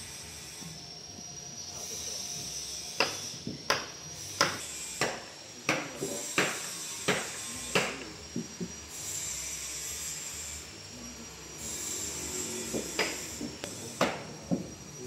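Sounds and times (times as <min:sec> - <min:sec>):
sawmill machinery hissing: 0:00.0 - 0:15.0.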